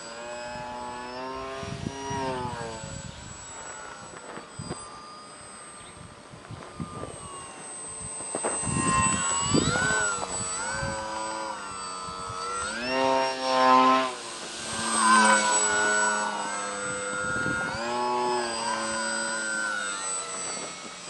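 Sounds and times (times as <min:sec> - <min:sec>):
electric motor spinning propeller: 0:00.0 - 0:21.0.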